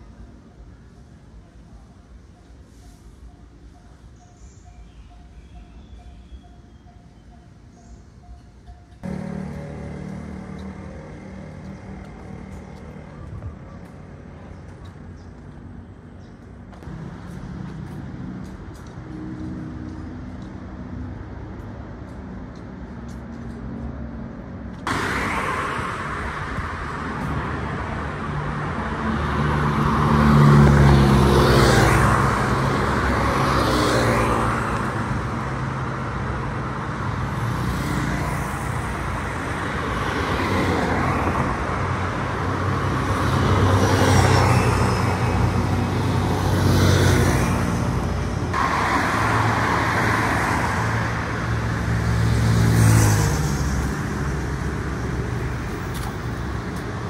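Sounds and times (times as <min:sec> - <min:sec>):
traffic hum: 0:00.0 - 0:57.0
cars and motorcycles passing: 0:09.0 - 0:57.0.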